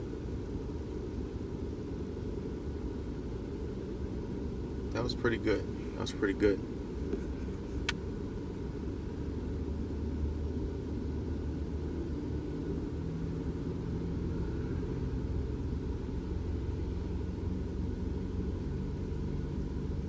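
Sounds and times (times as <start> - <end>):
car engine rumble inside cabin: 0.0 - 20.0
low drone: 0.0 - 20.0.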